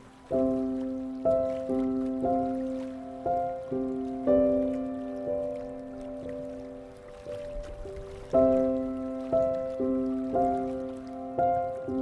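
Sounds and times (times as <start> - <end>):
faint sea water: 0.0 - 12.0
slow calm relaxation music: 0.0 - 12.0.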